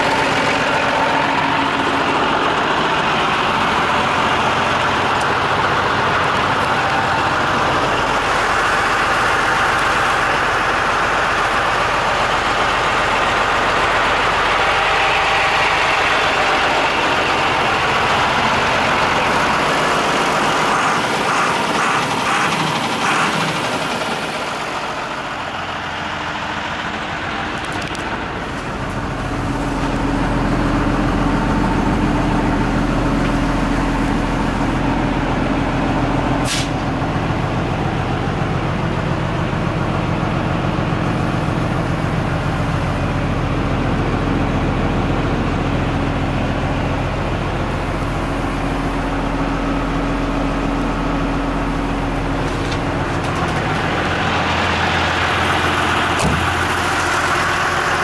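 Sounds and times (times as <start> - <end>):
fire truck diesel engine idling: 0.0 - 58.0.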